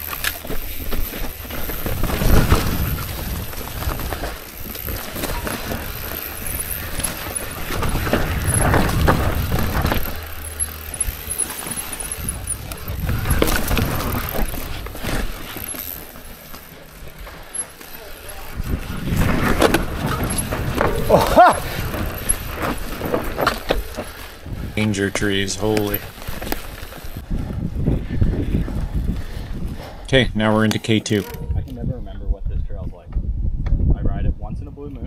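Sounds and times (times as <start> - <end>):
bike rattling over bumps: 0.0 - 31.8
bike tyres on dirt trail: 0.0 - 31.9.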